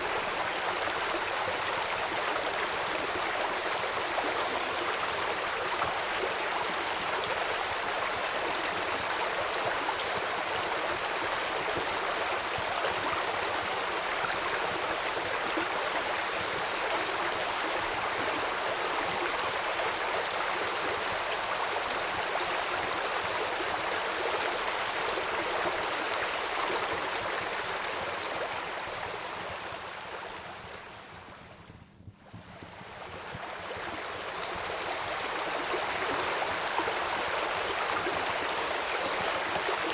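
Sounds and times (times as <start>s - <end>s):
river water flowing: 0.0s - 31.0s, 33.0s - 39.9s.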